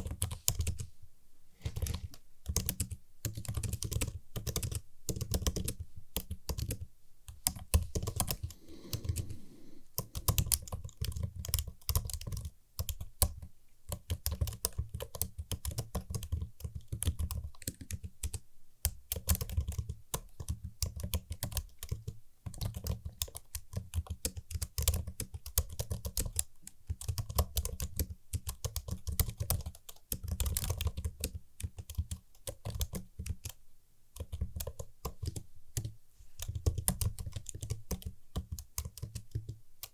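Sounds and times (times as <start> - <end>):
typing on computer keyboard: 0.0 - 0.9, 1.7 - 9.3, 10.0 - 39.9.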